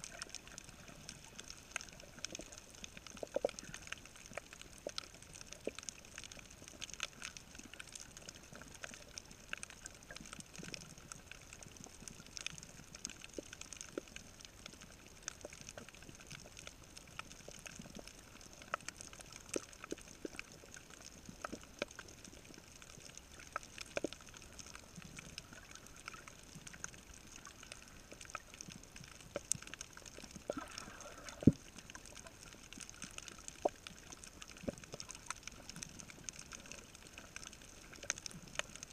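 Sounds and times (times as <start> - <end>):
faint steady hiss: 0.0 - 38.9
sharp clicks and pops: 0.0 - 38.9
snapping shrimp crackle: 0.0 - 38.9.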